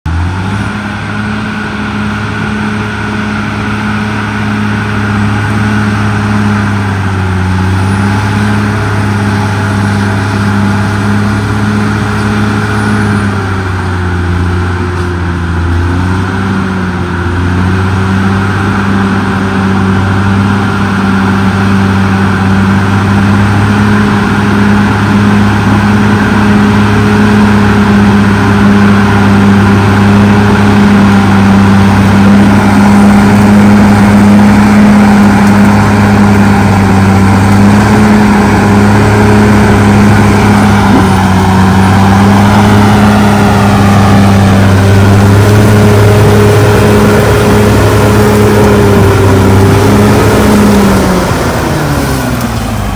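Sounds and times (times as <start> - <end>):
bulldozer diesel engine running: 0.0 - 52.9
bulldozer blade pushing dirt: 0.1 - 52.9.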